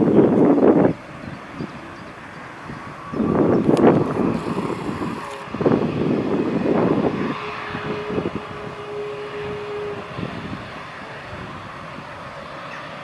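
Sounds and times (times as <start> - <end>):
jet engines rumbling: 0.0 - 13.0
steady whine: 0.0 - 13.0.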